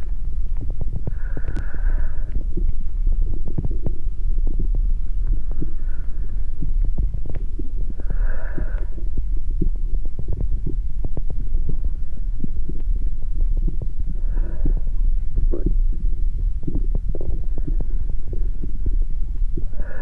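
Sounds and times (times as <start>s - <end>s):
heart sounds low throbbing rumble: 0.0s - 20.0s.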